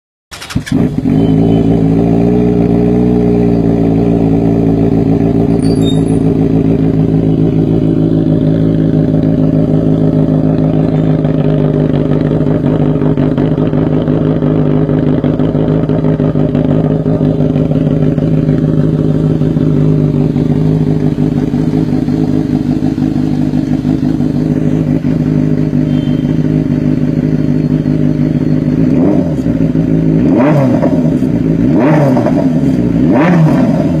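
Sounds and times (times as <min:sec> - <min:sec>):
motorcycle engine idling: 0:00.3 - 0:31.7
engine throttle blips: 0:00.3 - 0:34.0.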